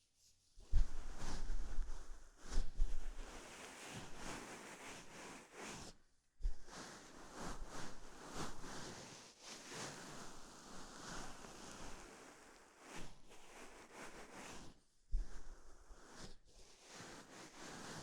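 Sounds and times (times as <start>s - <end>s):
fabric rustling on microphone: 0.2s - 18.0s.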